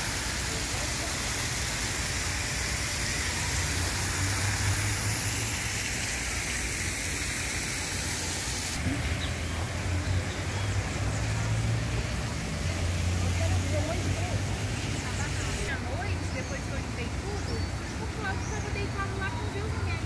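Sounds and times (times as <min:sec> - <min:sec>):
fountain water hissing: 0:00.0 - 0:20.0.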